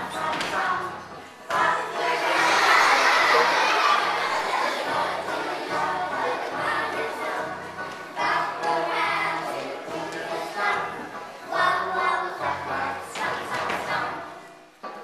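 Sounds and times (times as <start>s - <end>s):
children singing: 0.0s - 14.8s
backing track music: 0.0s - 15.0s.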